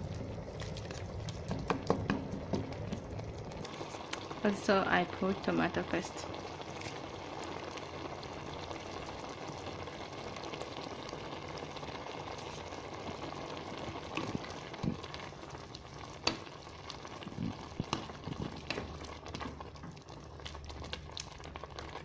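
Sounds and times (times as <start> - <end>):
sauce sizzling in a pan: 0.1 - 22.0.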